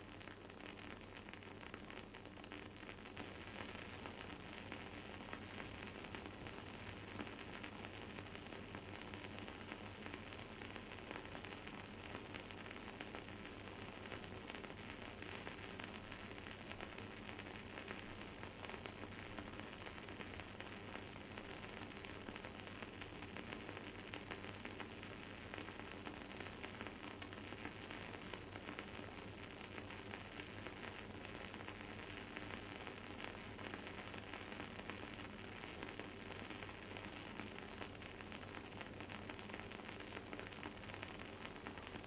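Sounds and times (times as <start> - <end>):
candle crackling: 0.0 - 42.0.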